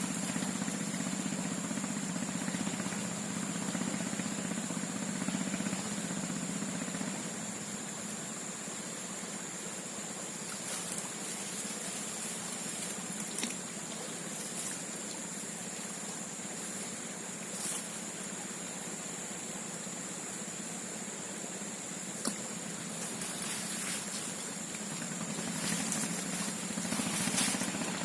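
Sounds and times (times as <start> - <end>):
constant hiss: 0.0 - 28.0.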